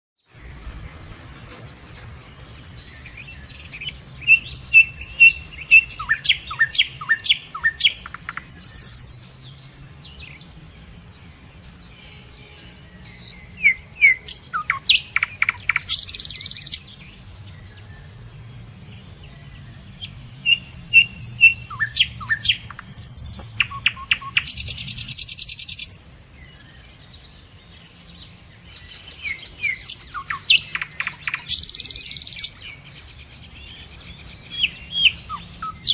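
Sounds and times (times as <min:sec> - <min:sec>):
bird singing chirps and rattle: 0:00.3 - 0:35.9.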